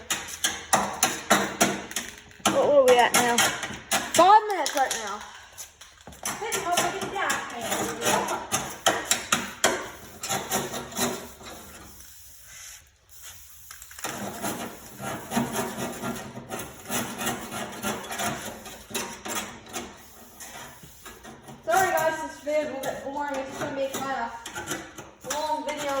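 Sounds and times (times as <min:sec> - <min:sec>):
scraper scraping rust off metal: 0:00.0 - 0:05.1, 0:06.2 - 0:26.0.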